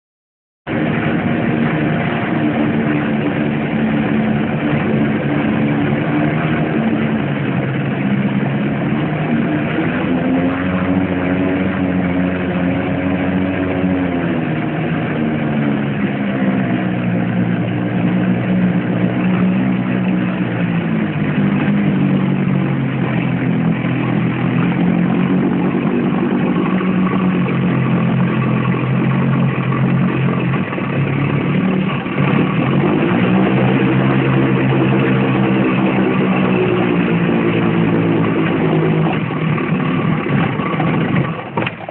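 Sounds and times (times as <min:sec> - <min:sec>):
outboard motor revving: 0:00.7 - 0:41.9.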